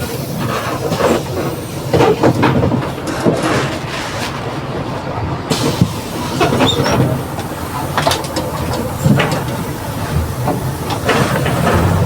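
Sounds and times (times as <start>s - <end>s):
bus drivetrain rumble: 0.0s - 12.0s.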